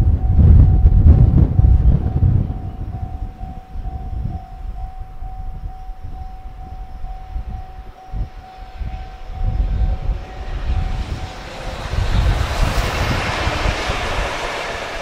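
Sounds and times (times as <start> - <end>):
freight train approaching: 0.0 - 15.0
level-crossing warning bell ringing: 0.0 - 15.0
wind rumble on microphone: 0.0 - 15.0.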